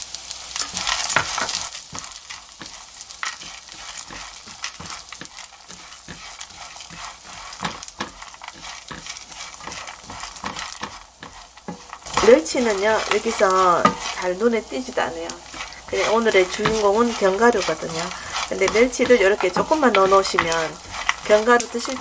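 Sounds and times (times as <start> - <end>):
hot oil sizzling: 0.0 - 22.0
nuts clattering in a pan: 0.2 - 22.0
spatula scraping a pan: 0.5 - 22.0.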